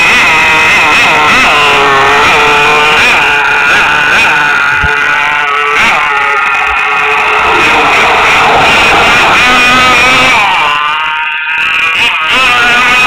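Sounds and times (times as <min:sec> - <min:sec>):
radio-controlled car engine revving: 0:00.0 - 0:13.0.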